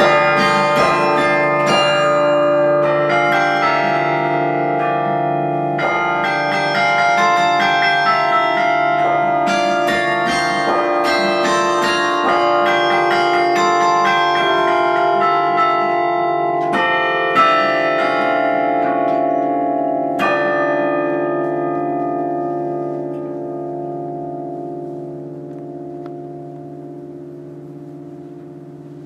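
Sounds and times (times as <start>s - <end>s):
carillon bells ringing: 0.0s - 29.0s.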